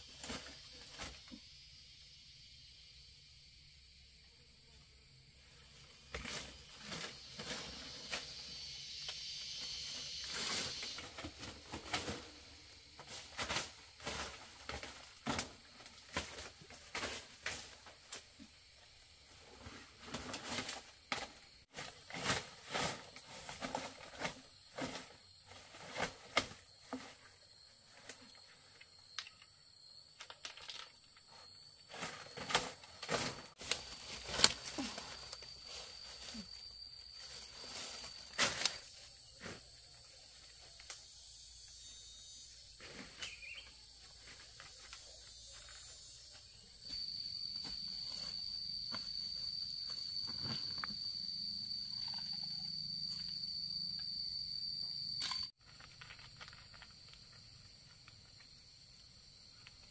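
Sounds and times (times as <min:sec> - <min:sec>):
high-pitched insect drone: 0:00.0 - 0:15.4, 0:26.6 - 0:59.9.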